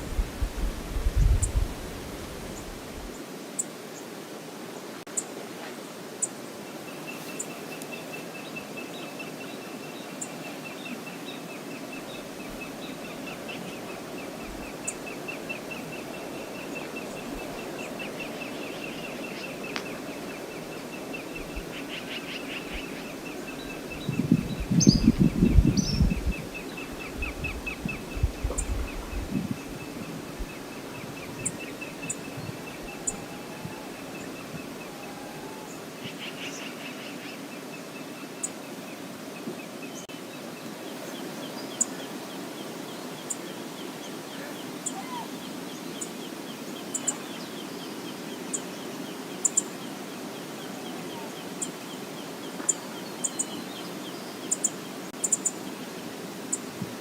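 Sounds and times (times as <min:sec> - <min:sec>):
river and waterfall rushing: 0:01.6 - 0:25.0, 0:29.6 - 0:57.0.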